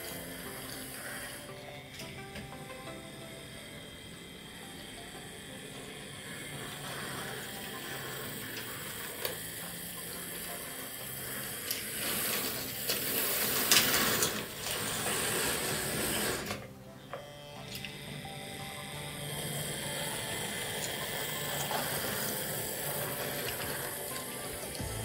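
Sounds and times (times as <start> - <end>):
wheels clicking on rails: 0.0 - 16.9, 17.9 - 25.0
model train motor whirring: 0.0 - 25.0.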